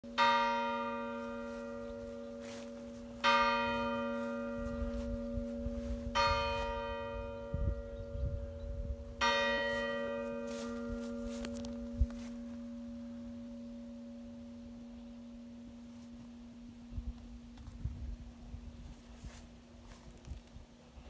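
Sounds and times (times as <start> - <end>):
church bell tolling: 0.1 - 17.6.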